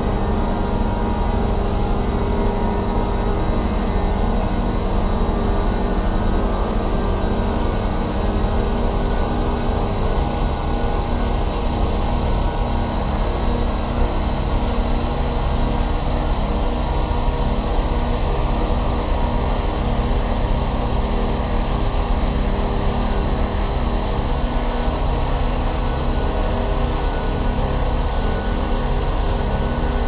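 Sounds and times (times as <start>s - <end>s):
dense low drone: 0.0s - 30.0s.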